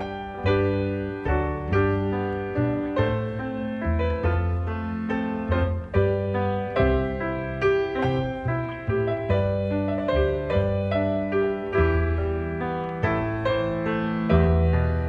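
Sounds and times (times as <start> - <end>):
piano waltz: 0.0 - 15.0.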